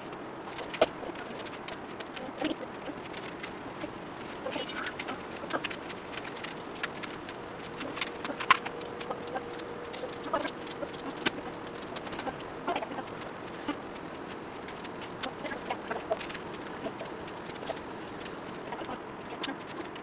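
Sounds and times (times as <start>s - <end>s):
faint steady tone: 0.0s - 20.0s
puzzle cubes clicking: 0.5s - 18.6s.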